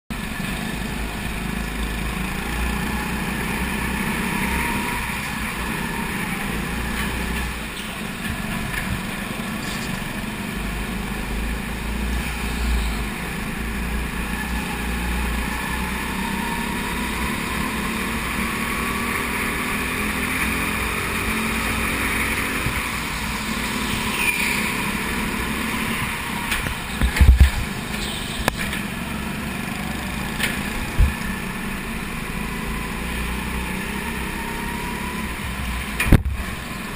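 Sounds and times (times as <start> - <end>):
kart engine revving: 0.1 - 36.9
other kart engines: 0.1 - 36.9.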